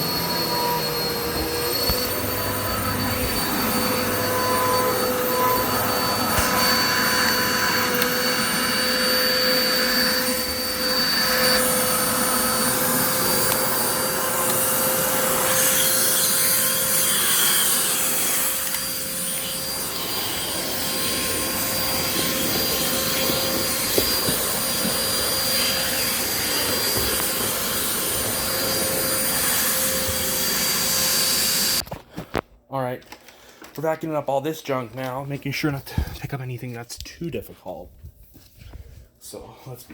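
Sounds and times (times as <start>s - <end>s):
vacuum cleaner running: 0.0s - 32.1s.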